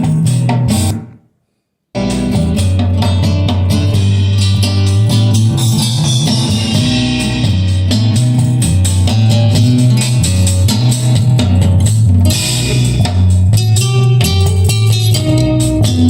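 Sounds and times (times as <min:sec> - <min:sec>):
guitar music with heavy bass: 0:00.0 - 0:01.1, 0:02.0 - 0:16.0.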